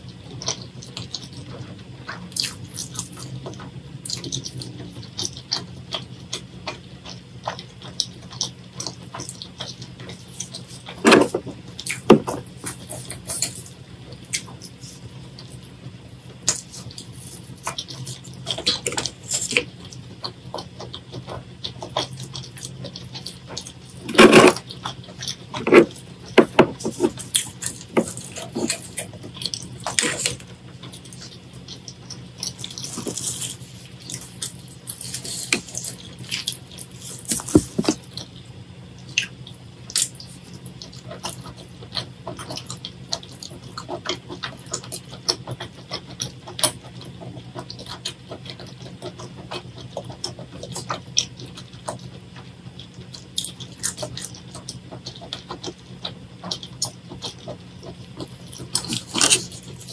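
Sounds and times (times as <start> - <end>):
wet chewing and smacking: 0.0 - 59.9.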